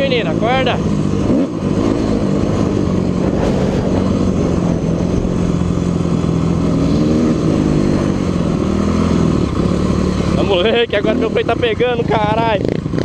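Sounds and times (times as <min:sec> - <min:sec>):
dirt bike engine running: 0:00.0 - 0:13.0
wind rushing over microphone: 0:00.9 - 0:11.4.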